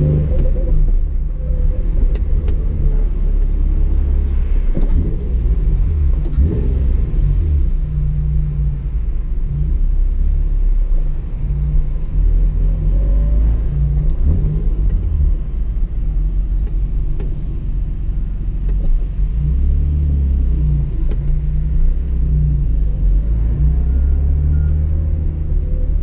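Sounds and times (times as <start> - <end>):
car engine and road drone: 0.0 - 26.0.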